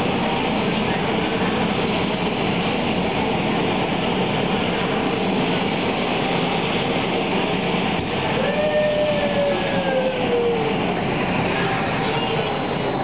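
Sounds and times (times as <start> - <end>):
blowers roaring wind: 0.0 - 13.0.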